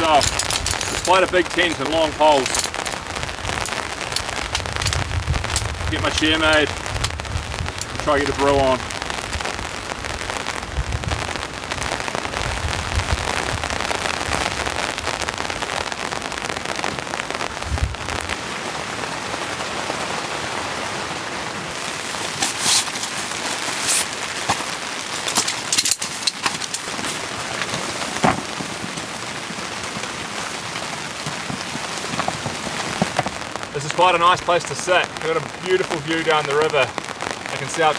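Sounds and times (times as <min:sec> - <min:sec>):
heavy rain on a tent: 0:00.0 - 0:37.9.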